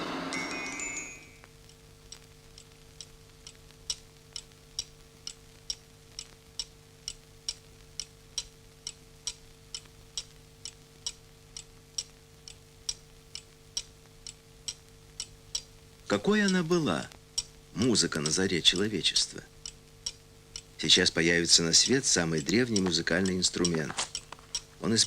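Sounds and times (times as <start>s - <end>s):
faint low hum: 0.0s - 25.0s
steady ticking: 1.6s - 25.0s.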